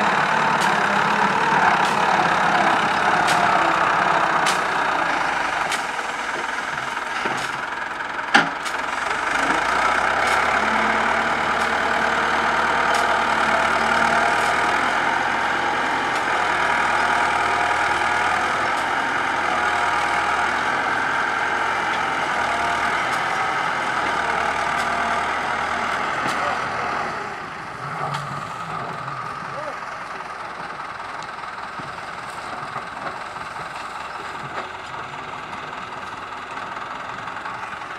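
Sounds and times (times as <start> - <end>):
loader engine running: 0.0 - 37.9.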